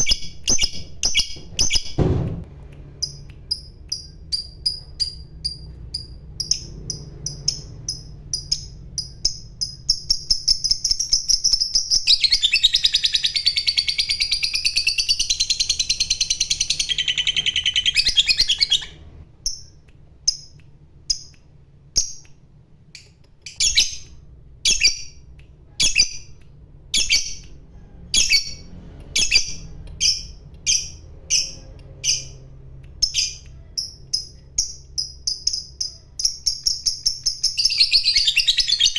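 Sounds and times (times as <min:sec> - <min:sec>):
lovebird chirping and trilling: 0:00.0 - 0:02.0, 0:03.0 - 0:22.2, 0:22.9 - 0:38.9.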